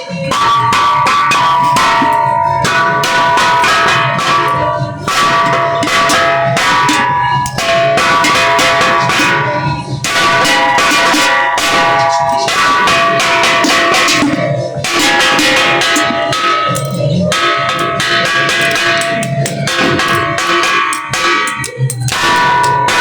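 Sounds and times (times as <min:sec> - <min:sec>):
bells ringing: 0:00.0 - 0:23.0.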